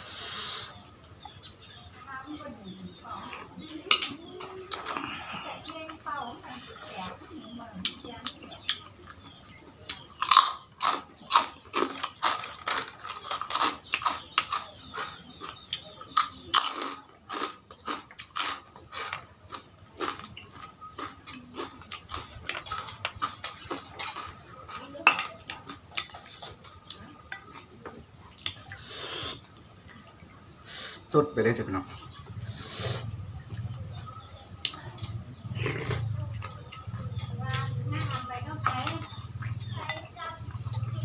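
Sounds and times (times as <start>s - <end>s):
person chewing noisily: 2.7s - 31.1s, 32.0s - 41.0s.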